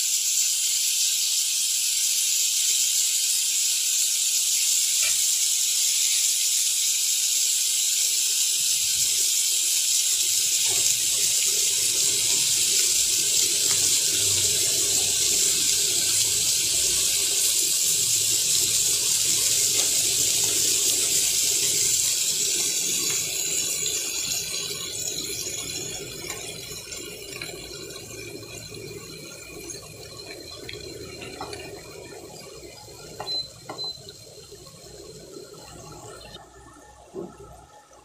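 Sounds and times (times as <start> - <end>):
food sizzling in a pan: 0.0 - 37.3.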